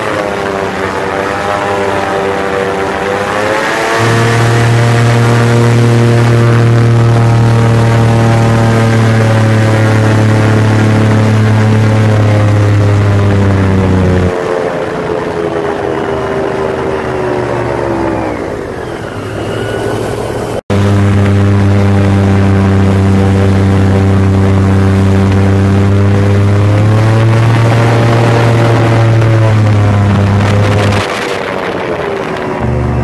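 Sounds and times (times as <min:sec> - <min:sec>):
airboat engine and propeller: 0:00.0 - 0:33.0.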